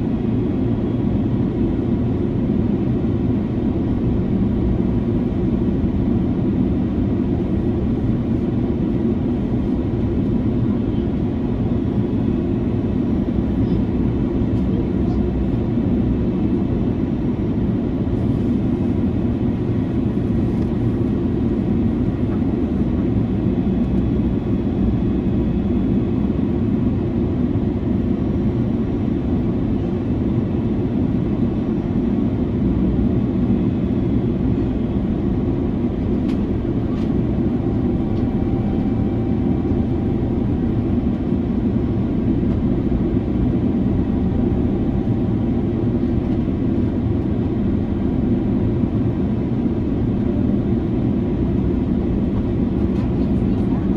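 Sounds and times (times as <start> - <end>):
airplane cabin engine rush: 0.0 - 53.9.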